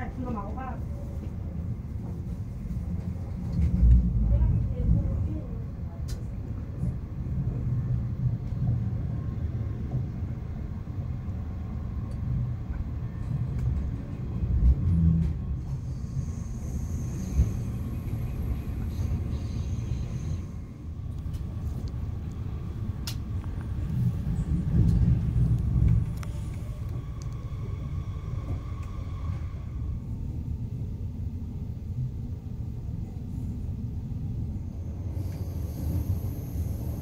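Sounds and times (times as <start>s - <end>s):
train rumbling on track: 0.0s - 37.0s.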